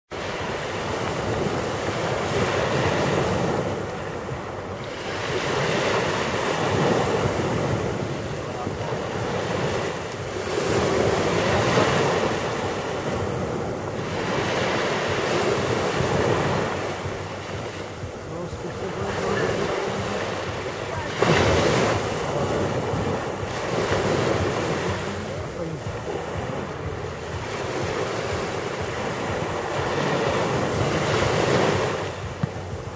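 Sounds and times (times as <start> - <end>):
waves breaking on pebble shore: 0.2 - 32.9.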